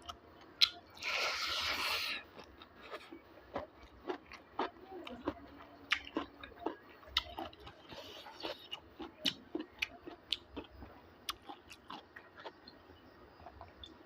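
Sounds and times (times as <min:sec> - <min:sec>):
man chewing with smacks and crunches: 0:00.0 - 0:14.0.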